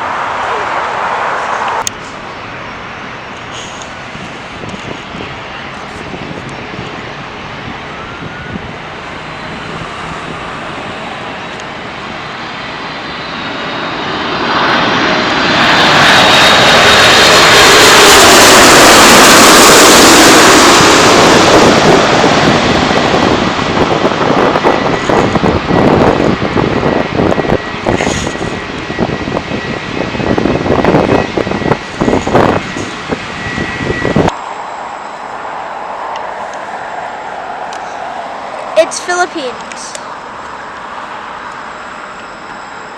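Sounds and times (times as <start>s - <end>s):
jet engines passing: 0.0s - 42.9s.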